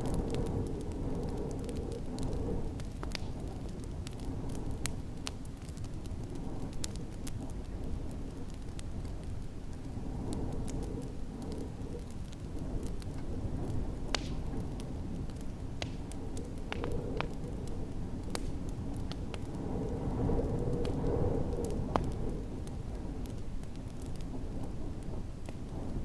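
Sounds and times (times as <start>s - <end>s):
low rumble of storm wind: 0.0s - 26.0s
wood fire crackling and popping: 0.0s - 26.0s.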